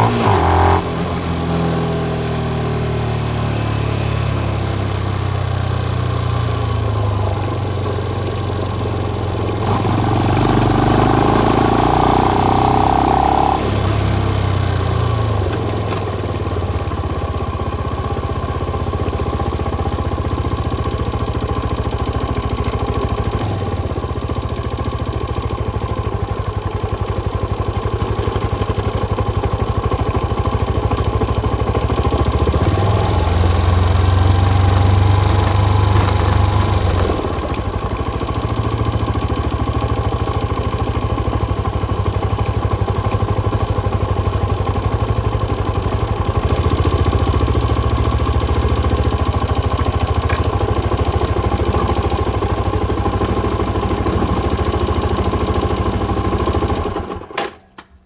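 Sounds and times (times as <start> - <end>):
motorcycle engine running: 0.0 - 57.4.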